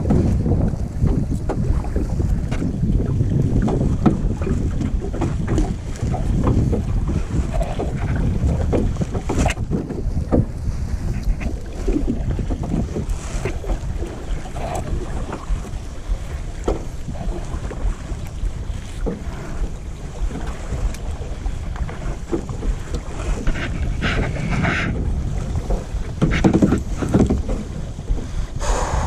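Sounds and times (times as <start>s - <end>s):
water splashing against kayak: 0.0s - 29.0s
wind buffeting microphone: 0.0s - 29.0s.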